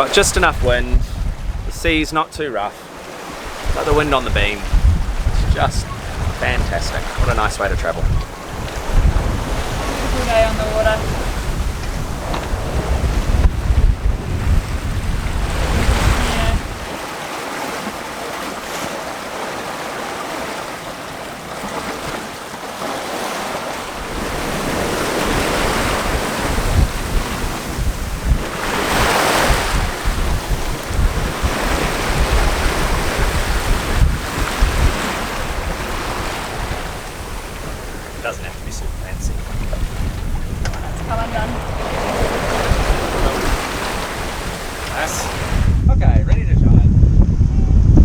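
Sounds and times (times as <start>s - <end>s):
wind buffeting microphone: 0.0s - 19.4s, 23.2s - 48.0s
water splashing along hull: 0.0s - 45.9s.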